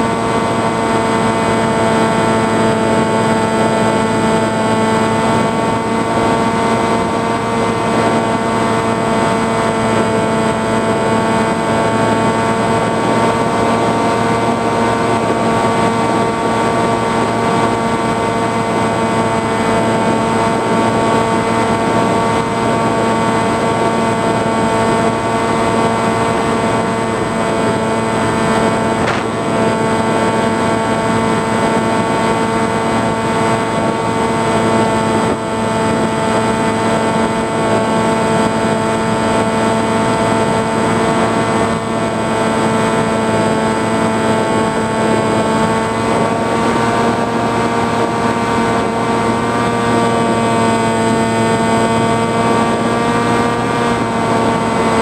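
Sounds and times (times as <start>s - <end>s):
model plane motor whine: 0.0s - 55.0s.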